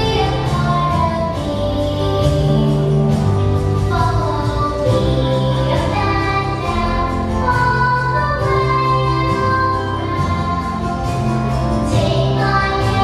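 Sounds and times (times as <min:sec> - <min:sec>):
song with held sung notes: 0:00.0 - 0:13.0.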